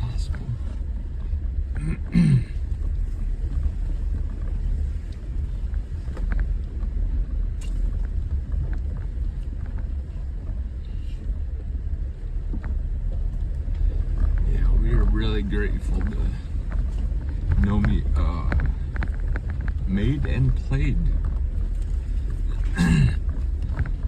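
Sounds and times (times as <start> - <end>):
engine and tyres rumbling: 0.0 - 24.0.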